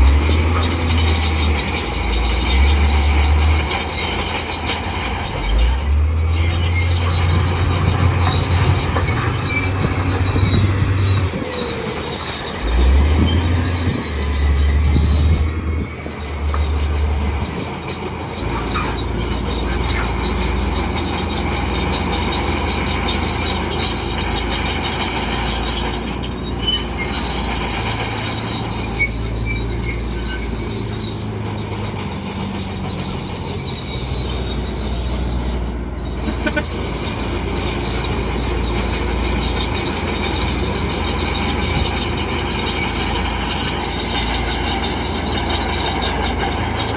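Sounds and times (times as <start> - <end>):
diesel engine rumbling: 0.0 - 46.9
steel tracks squealing and clattering: 0.0 - 46.9.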